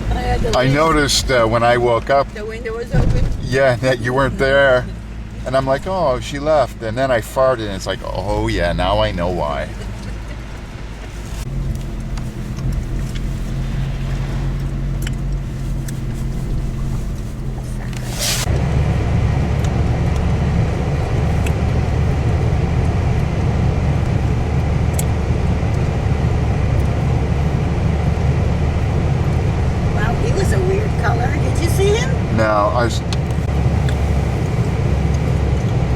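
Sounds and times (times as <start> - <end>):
car engine and road noise: 0.0 - 35.9.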